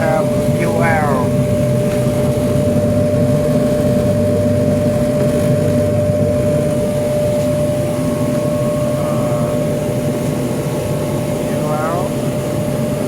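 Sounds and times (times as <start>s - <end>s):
blower humming with high whine: 0.0s - 13.0s.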